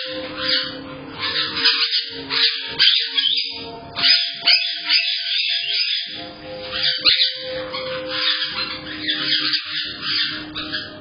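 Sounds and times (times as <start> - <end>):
parrots chirping and squawking: 0.0 - 11.0.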